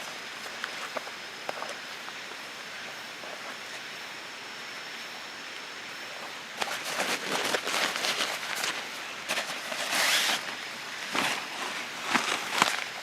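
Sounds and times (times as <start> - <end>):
crackling rustles: 0.0 - 3.9, 6.2 - 13.0
faint high whine: 0.0 - 13.0
outdoor hiss: 0.0 - 13.0.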